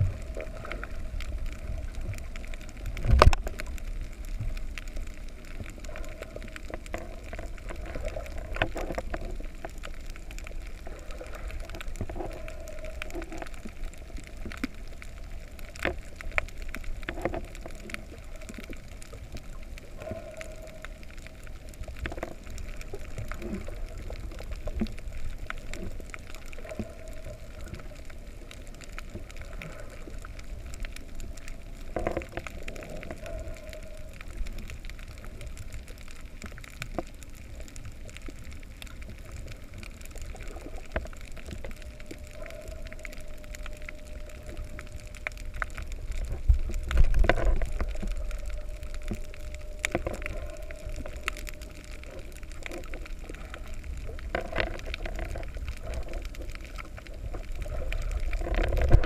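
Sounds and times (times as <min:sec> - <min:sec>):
clicks and crackles: 0:00.0 - 0:59.0
faint hum: 0:00.0 - 0:59.0
underwater rumble of moving water: 0:00.0 - 0:59.0.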